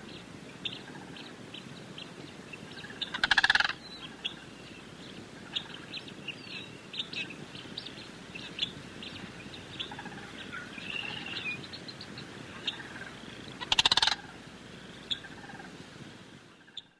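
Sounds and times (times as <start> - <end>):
birds chirping: 0.0 - 15.8.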